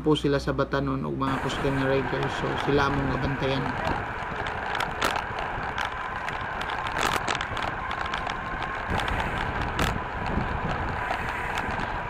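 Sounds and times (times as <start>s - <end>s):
bike tyres on asphalt: 1.3s - 12.0s
wind rumble on microphone: 1.3s - 12.0s
bike clicks and rattles: 1.4s - 12.0s.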